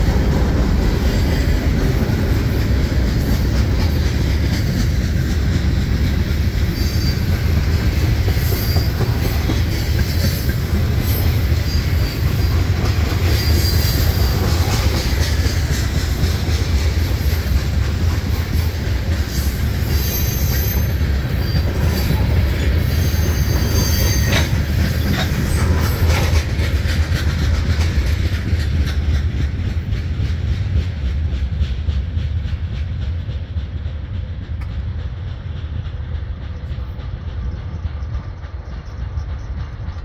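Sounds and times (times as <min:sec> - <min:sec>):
train rumble: 0:00.0 - 0:40.0
train wheels clacking on rails: 0:00.0 - 0:40.0
train wheels squealing: 0:00.0 - 0:40.0.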